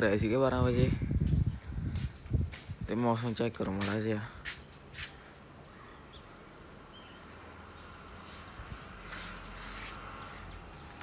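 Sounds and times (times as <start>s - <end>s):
faint insect chirring: 0.0s - 11.0s.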